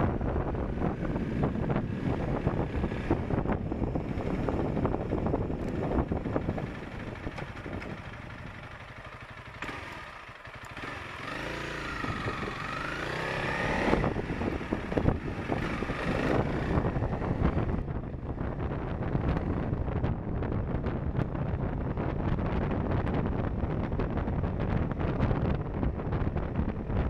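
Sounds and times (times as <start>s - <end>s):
wind buffeting microphone: 0.0s - 9.7s, 10.8s - 27.0s
motorcycle engine running: 0.0s - 27.0s.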